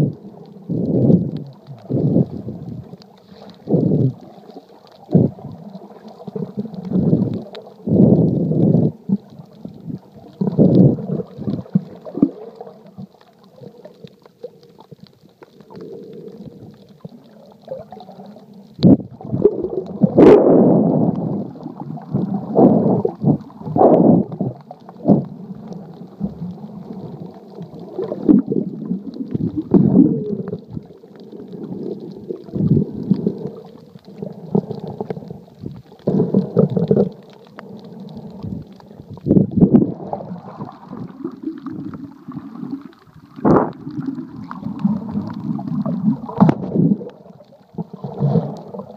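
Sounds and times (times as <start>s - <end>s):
underwater water sloshing: 0.0s - 48.9s.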